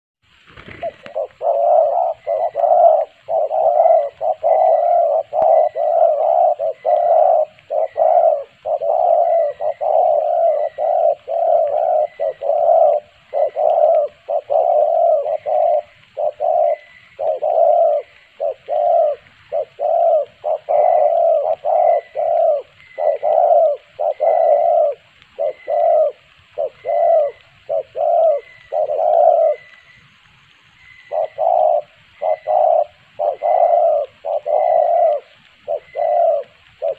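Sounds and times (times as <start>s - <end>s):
dove cooing: 0.5s - 30.1s, 30.8s - 36.9s.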